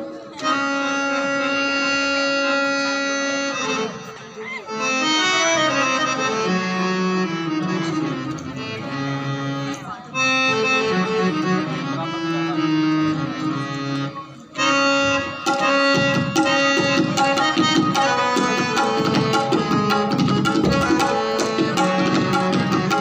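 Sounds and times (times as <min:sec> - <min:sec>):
harmonium melody: 0:00.0 - 0:23.0.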